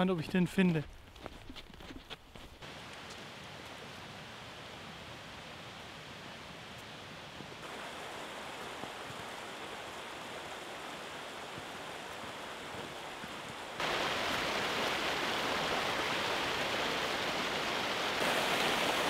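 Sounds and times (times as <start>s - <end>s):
stream rushing over boulders: 2.6s - 19.0s.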